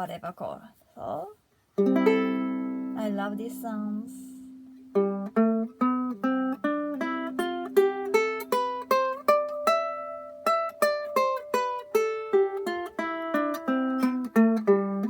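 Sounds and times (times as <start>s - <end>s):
ukulele plucked notes: 1.8s - 15.0s.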